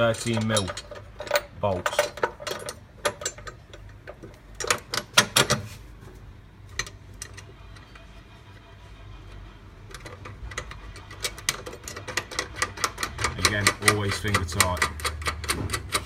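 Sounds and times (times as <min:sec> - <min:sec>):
metal bolts and washers clinking: 0:00.0 - 0:05.7, 0:06.7 - 0:08.1, 0:09.9 - 0:16.0
low steady hum: 0:00.0 - 0:16.0.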